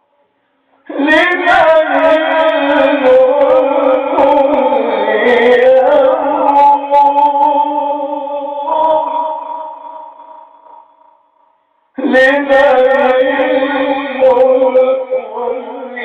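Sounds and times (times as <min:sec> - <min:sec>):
man chanting melodically: 0:00.0 - 0:10.9, 0:12.0 - 0:16.0.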